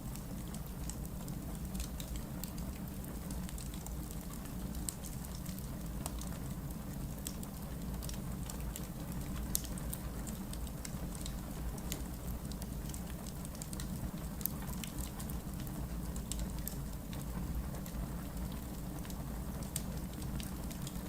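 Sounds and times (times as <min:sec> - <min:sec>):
logs crackling in a fireplace: 0:00.0 - 0:21.0.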